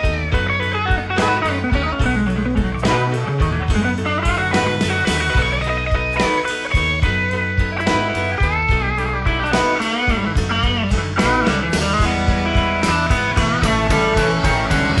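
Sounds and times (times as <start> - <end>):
bending lead guitar notes: 0.0 - 15.0
country-rock band instrumental: 0.0 - 15.0.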